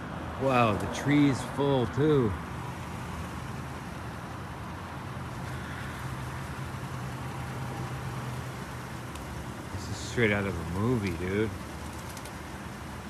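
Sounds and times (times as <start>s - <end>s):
traffic noise: 0.0s - 13.0s
vehicle engine hum: 0.0s - 13.0s.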